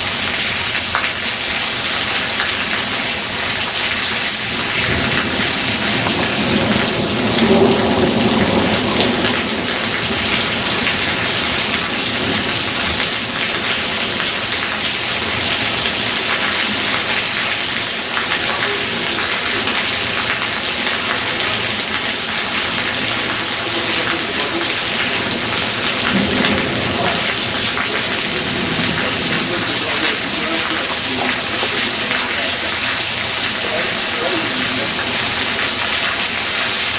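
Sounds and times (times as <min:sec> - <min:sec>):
heavy rain: 0:00.0 - 0:36.9
low thunder rolling: 0:04.4 - 0:36.4.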